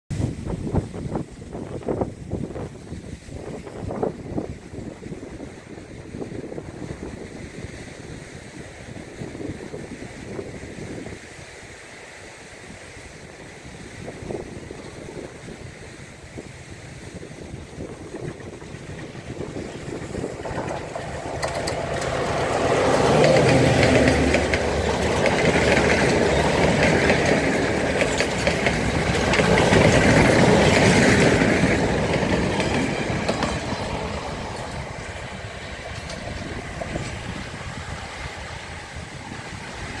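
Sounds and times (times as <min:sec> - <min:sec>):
diesel locomotive engine rumble: 0:00.1 - 0:40.0
train wheels rolling: 0:03.4 - 0:40.0.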